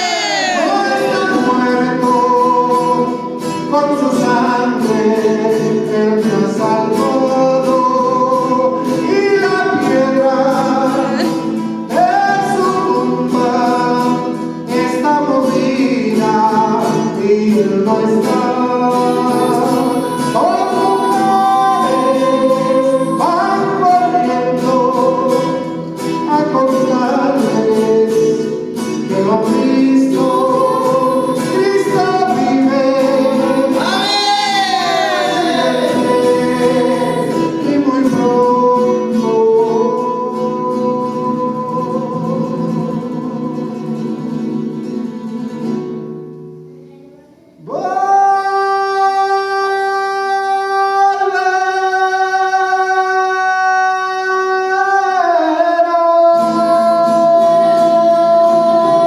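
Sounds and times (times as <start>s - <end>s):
person singing gospel song: 0.0s - 45.6s, 46.9s - 59.0s
guitar accompaniment: 0.0s - 59.0s.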